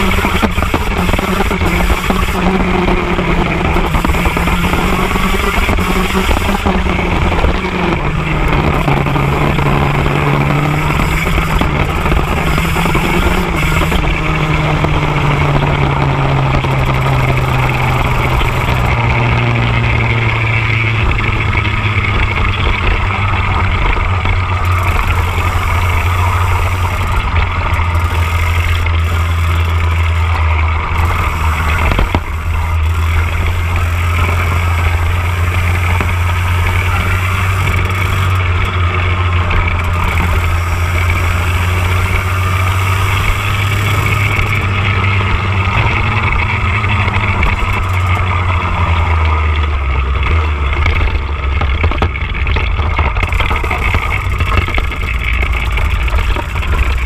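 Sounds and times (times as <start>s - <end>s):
kart two-stroke engine at speed: 0.0s - 57.0s.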